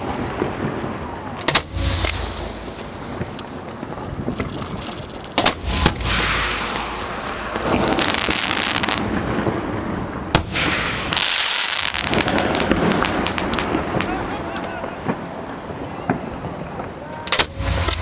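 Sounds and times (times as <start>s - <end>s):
fireworks banging: 0.0s - 18.0s
fireworks hissing crackle: 0.0s - 18.0s
rapid crackling pops: 1.3s - 9.6s, 10.3s - 18.0s.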